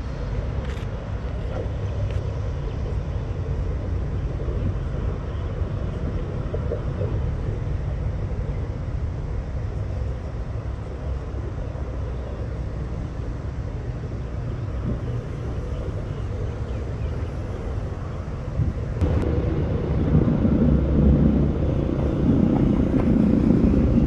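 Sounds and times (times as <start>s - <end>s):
diesel train rumbling along track: 0.0s - 24.0s.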